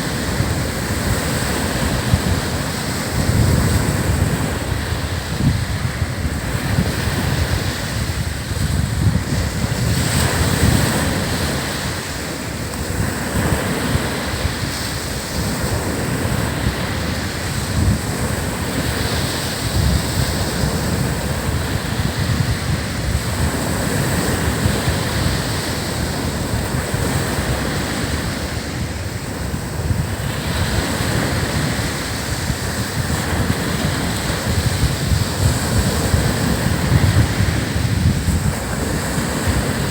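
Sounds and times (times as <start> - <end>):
waves breaking on beach: 0.0 - 39.9
wind buffeting microphone: 0.0 - 39.9.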